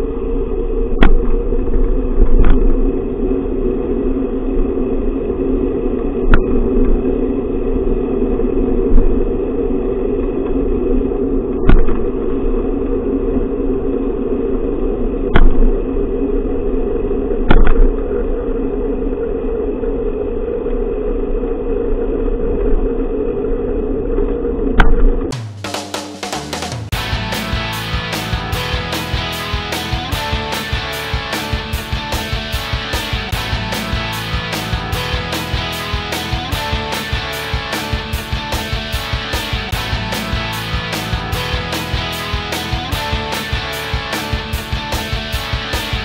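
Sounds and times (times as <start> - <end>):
bicycle ride rumbling drone: 0.0 - 25.3, 26.9 - 46.0.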